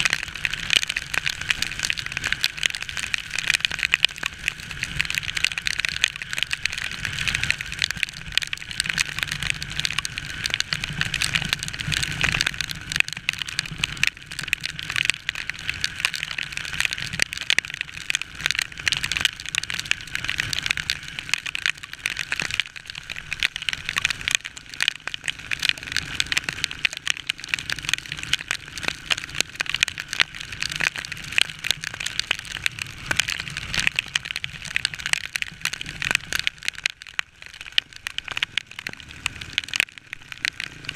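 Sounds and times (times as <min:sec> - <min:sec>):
motorcycle and road rumble: 0:00.0 - 0:40.9
raindrops striking microphone: 0:00.0 - 0:40.9.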